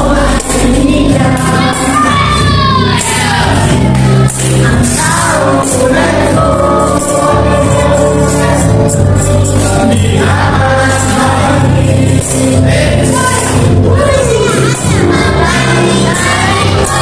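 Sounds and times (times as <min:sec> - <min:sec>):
person singing into a microphone: 0:00.0 - 0:03.8, 0:04.6 - 0:17.0
group singing a worship song: 0:00.0 - 0:17.0.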